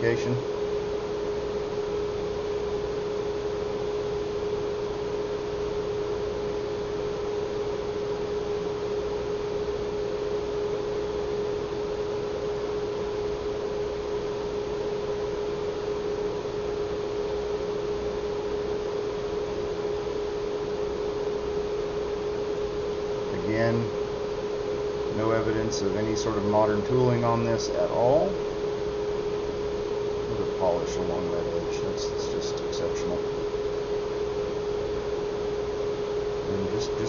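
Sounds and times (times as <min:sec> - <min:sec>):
steady mid-pitch hum: 0:00.0 - 0:37.0.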